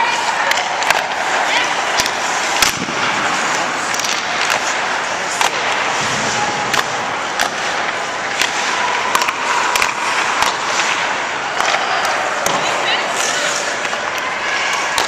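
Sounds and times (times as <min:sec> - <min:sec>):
hockey sticks and pucks clacking: 0:00.0 - 0:15.0
skates scraping on ice: 0:00.0 - 0:15.0.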